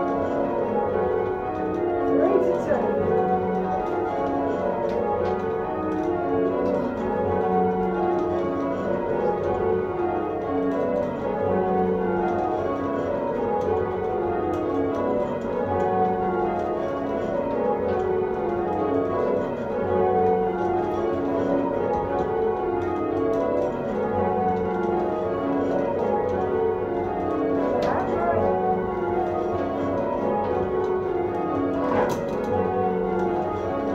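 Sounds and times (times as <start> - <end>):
church bells change ringing: 0.0 - 33.9.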